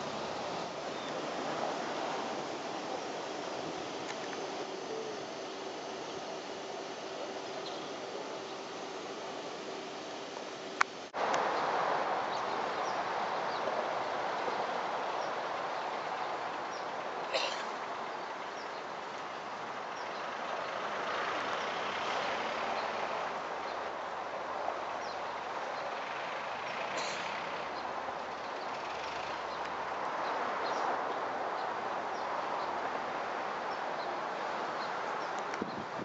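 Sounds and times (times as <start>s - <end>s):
steady outdoor noise: 0.0s - 36.0s.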